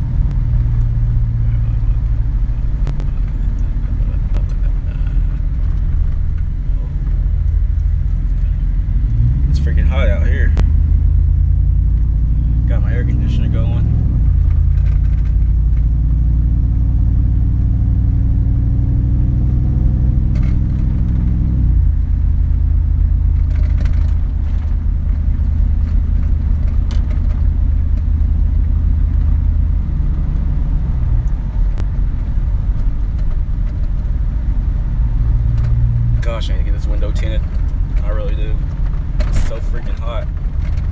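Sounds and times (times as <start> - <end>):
truck exhaust deep drone: 0.0 - 40.9.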